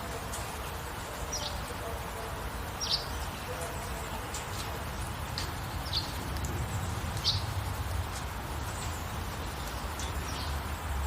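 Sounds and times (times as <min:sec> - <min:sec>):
rainfall hiss: 0:00.0 - 0:11.0.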